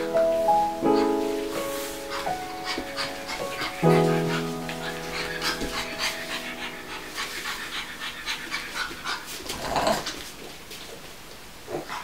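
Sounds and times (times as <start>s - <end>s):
puppy panting: 0.0s - 10.5s.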